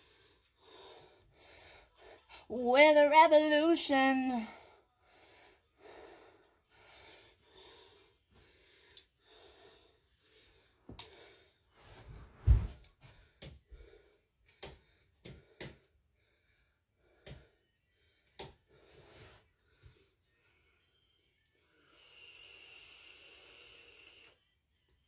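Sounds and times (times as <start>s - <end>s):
person breathing: 0.0s - 2.5s, 4.5s - 12.2s, 13.0s - 24.4s.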